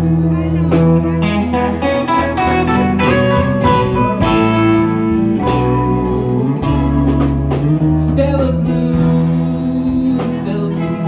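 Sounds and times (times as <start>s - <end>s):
electric guitar melody: 0.0s - 11.0s
live rock band playing ballad: 0.0s - 11.0s.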